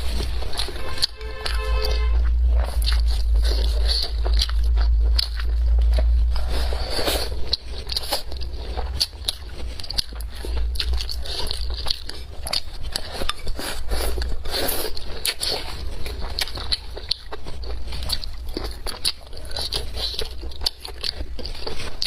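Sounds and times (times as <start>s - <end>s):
chewing and biting: 0.0s - 22.0s
steady low hum: 0.0s - 22.0s.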